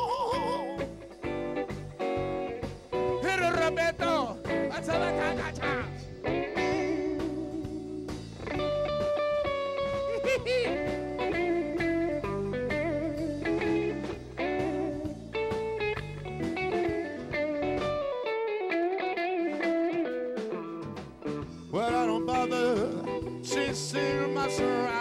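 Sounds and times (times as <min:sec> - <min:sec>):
bass guitar: 0:00.0 - 0:25.0
drums: 0:00.0 - 0:25.0
electric guitar solo: 0:00.0 - 0:25.0.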